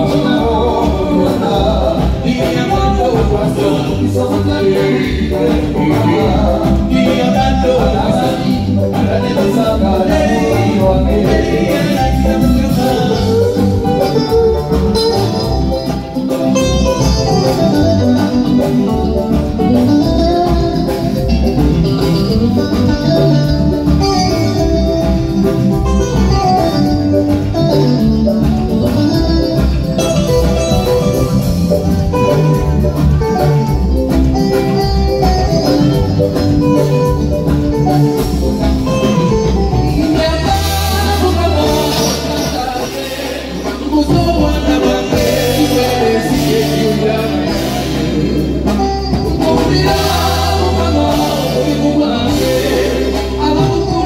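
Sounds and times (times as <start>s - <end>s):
plucked guitar: 0.0s - 54.0s
steady bass beat: 0.0s - 54.0s.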